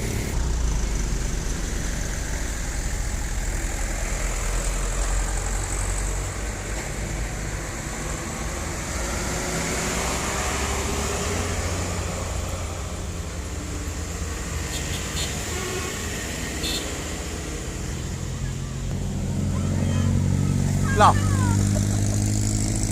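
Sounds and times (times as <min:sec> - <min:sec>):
heavy vehicle engine running: 0:00.0 - 0:22.9
road traffic: 0:00.0 - 0:22.9.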